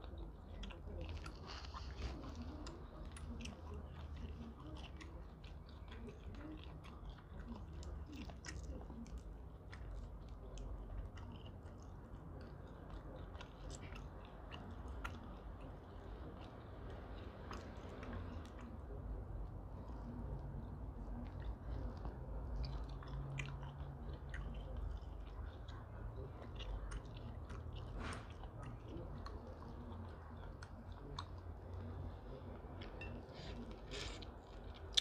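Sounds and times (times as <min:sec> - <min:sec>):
person chewing: 0:00.0 - 0:18.9, 0:19.8 - 0:35.0.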